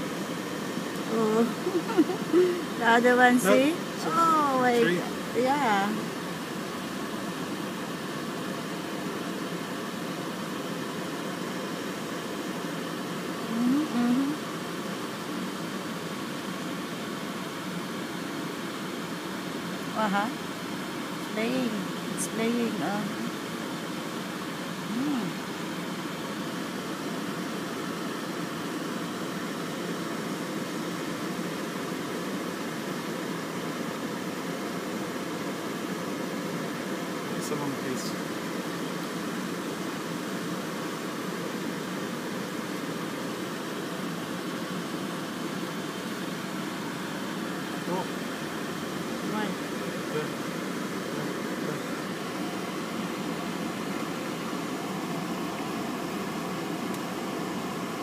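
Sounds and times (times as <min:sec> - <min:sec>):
air conditioning fan: 0:00.0 - 0:58.0
car engine idling: 0:00.0 - 0:58.0
outdoor rushing hum: 0:00.0 - 0:58.0.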